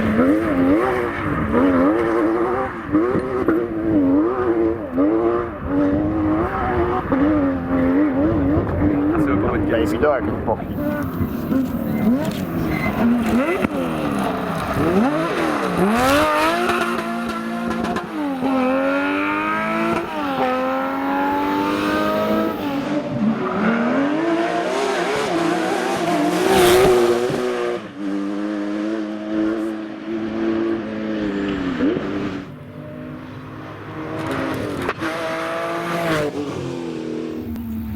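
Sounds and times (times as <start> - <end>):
rally car engine at full throttle: 0.0 - 37.9.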